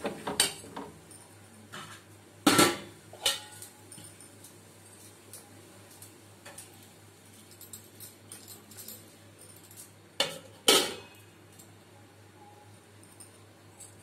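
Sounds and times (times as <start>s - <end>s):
utensils and dishes clinking: 0.2s - 11.7s.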